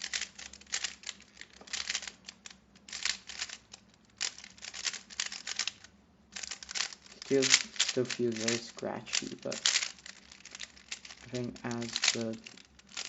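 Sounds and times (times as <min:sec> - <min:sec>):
puzzle cube clicking and scraping: 0:00.0 - 0:13.0.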